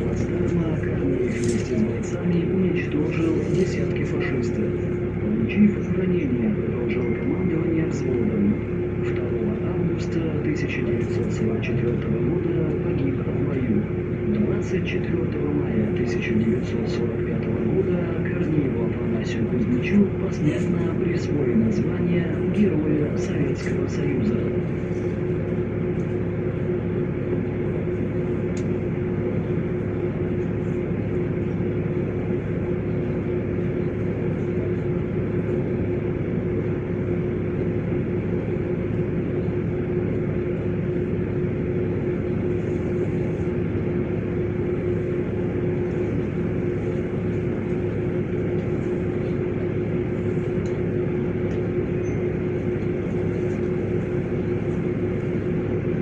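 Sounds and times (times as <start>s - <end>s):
bus engine and road drone: 0.0s - 56.0s
constant tone: 0.0s - 56.0s.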